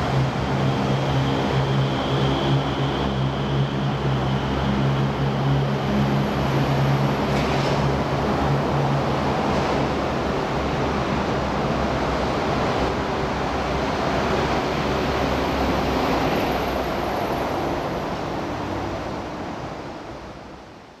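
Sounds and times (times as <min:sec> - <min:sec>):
electric train humming: 0:00.0 - 0:20.8.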